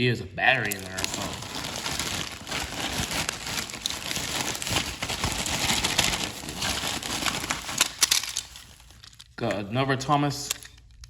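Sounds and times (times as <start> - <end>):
bubble wrap crinkling: 0.5 - 9.4.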